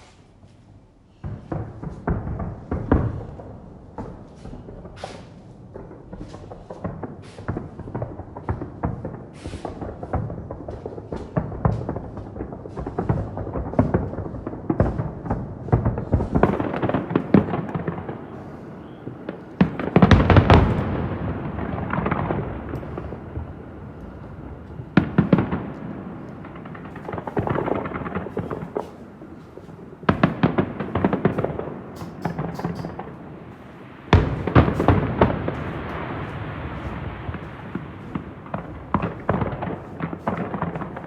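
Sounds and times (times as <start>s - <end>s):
distant firework booms with echoes: 1.1s - 41.0s.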